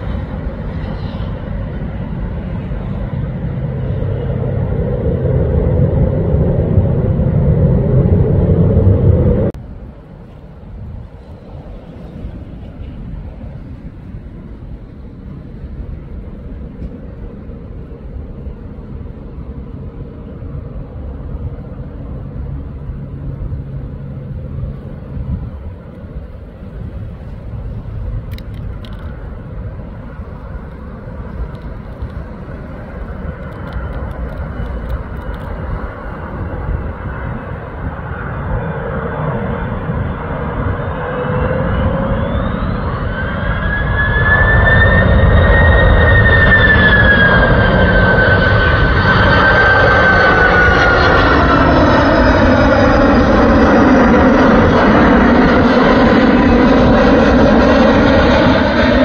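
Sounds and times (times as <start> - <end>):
high engine whine: 0.0 - 59.0
jet engine rumble: 0.0 - 59.0.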